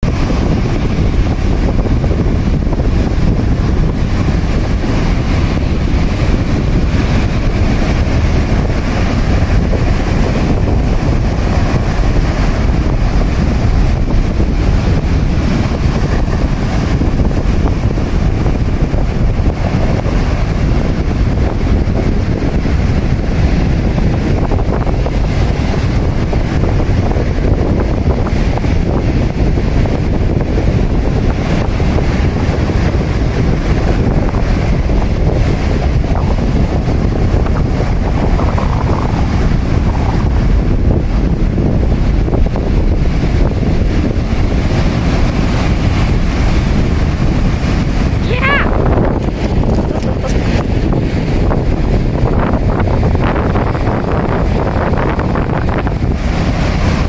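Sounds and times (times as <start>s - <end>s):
heavy surf breaking: 0.0s - 57.0s
strong wind buffeting microphone: 0.0s - 57.0s.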